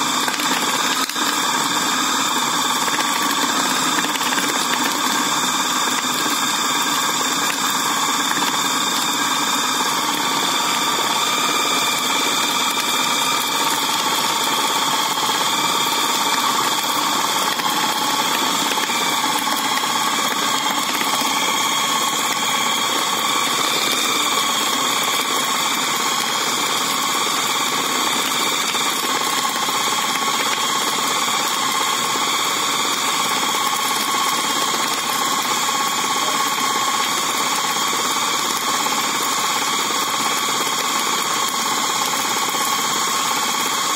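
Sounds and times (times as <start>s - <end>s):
food chopper motor running: 0.0s - 43.9s.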